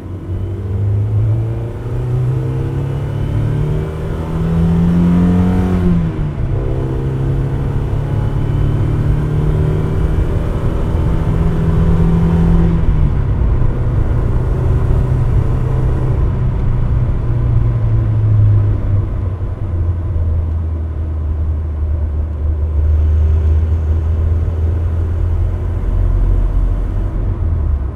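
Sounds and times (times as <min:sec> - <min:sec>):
car engine driving: 0:00.0 - 0:27.9.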